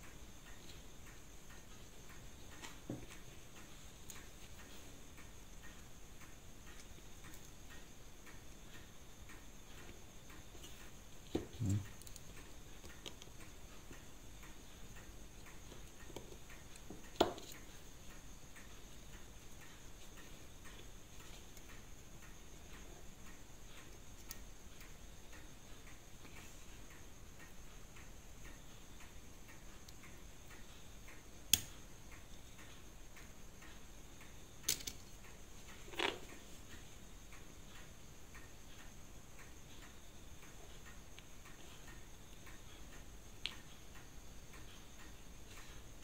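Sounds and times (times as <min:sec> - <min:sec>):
watch movement ticking: 0:00.0 - 0:46.0.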